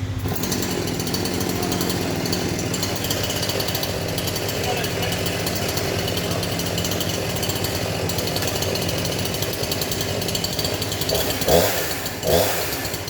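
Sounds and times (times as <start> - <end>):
chainsaw engine idling and revving: 0.0 - 13.0.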